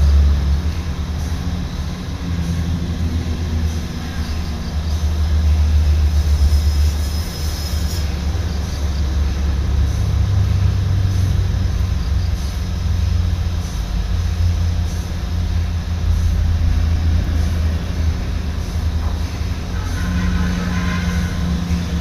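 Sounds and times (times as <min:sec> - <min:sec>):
diesel forklift engine rumbling: 0:00.0 - 0:22.0.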